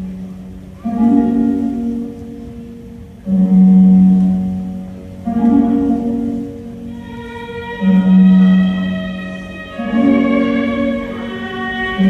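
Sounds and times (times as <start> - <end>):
slow classical music long low notes: 0.0 - 12.0.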